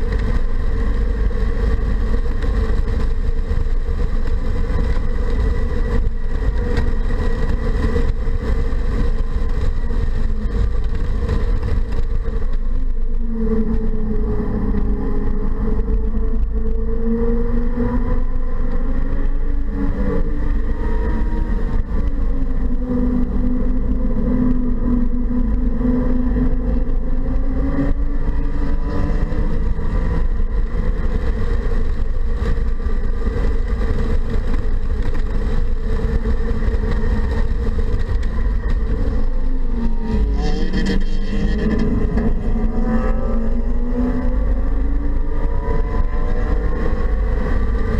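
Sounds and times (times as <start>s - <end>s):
car engine pulling hard: 0.0s - 47.9s
road and wind rumble: 0.0s - 47.9s.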